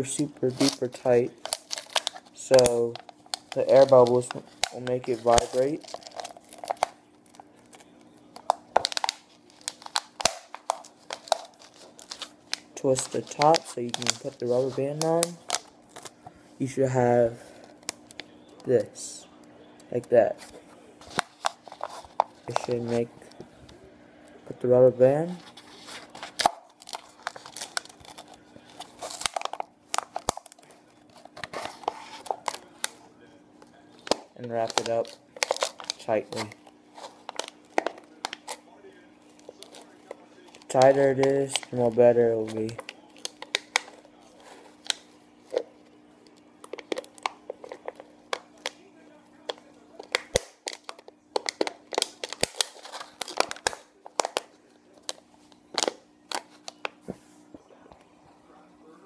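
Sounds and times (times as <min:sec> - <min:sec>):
plastic bottle crinkling: 0:00.1 - 0:16.2, 0:20.0 - 0:23.4, 0:25.3 - 0:33.0, 0:33.9 - 0:38.6, 0:39.2 - 0:48.8, 0:49.4 - 0:57.0.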